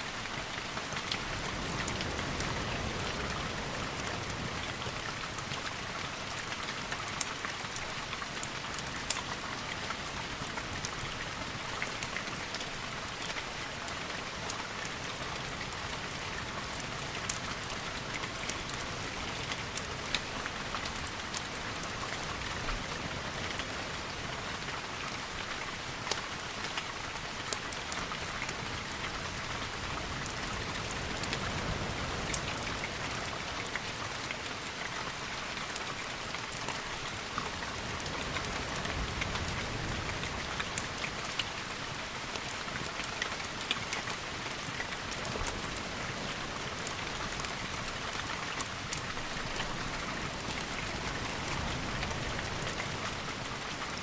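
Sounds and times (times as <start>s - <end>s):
sharp ticks of raindrops: 0.0s - 54.0s
steady rain falling: 0.0s - 54.0s.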